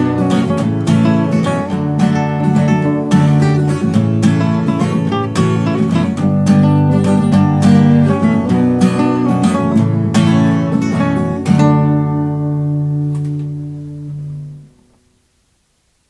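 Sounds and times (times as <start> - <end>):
acoustic guitar strumming: 0.0 - 15.2.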